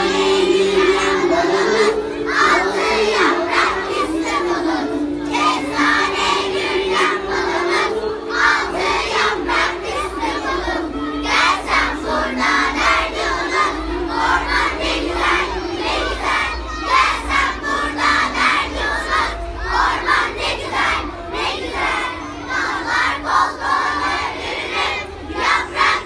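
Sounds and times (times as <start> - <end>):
children singing together: 0.0 - 26.0
recorded music track: 0.0 - 26.0.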